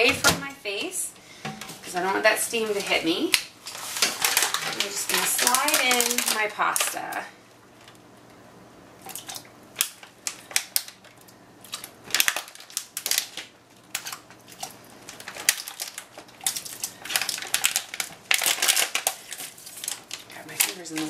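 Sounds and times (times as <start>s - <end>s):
plastic bag crinkling: 1.8s - 8.1s, 9.0s - 21.0s.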